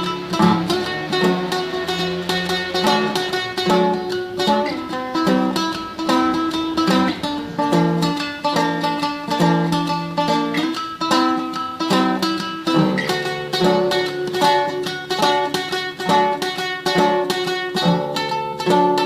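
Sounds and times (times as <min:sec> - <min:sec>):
solo classical guitar tremolo: 0:00.0 - 0:19.0.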